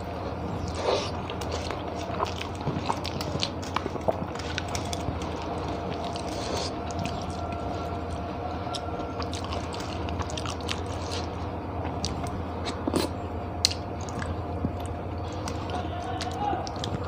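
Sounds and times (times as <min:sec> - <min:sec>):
low hum: 0:00.0 - 0:17.0
wet chewing and lip smacks: 0:00.0 - 0:17.0.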